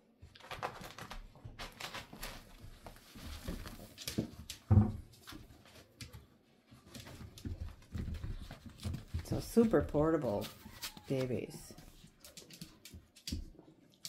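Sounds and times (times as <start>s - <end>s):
paws scratching and clicking: 0.3s - 14.0s
puppies scuffling on carpet: 0.4s - 13.5s.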